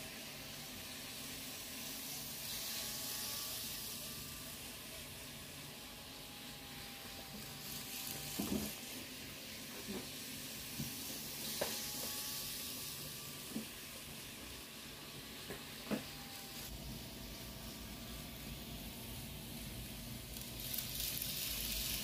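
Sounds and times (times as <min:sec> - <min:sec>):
faint motor whine: 0:00.0 - 0:22.0.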